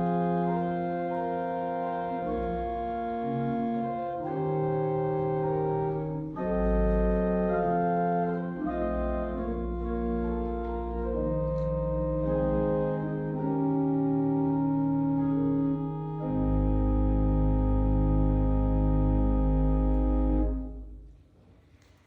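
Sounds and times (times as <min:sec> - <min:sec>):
deep organ bass notes: 0:00.0 - 0:21.0
organ playing sustained chords: 0:00.0 - 0:21.1.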